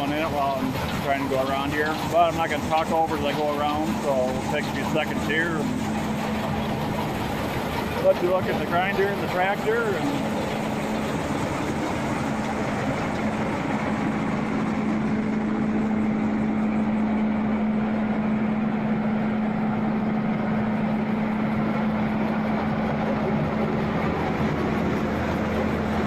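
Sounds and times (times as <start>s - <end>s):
grinder-mixer machinery clatter: 0.0s - 26.0s
tractor diesel engine running: 0.0s - 26.0s.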